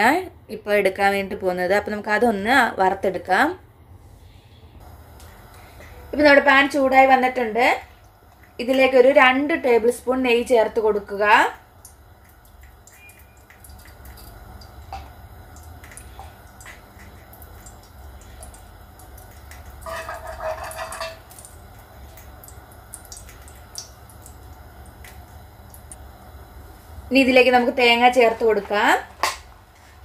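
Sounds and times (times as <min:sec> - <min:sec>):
low steady hum: 0:00.0 - 0:30.0
ghee sizzling and crackling: 0:04.8 - 0:30.0.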